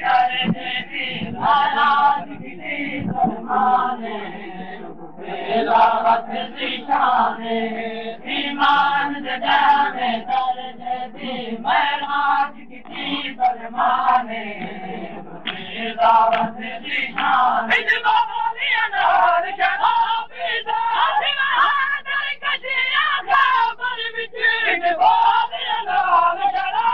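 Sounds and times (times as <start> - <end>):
crowd of men chanting: 0.0 - 26.9.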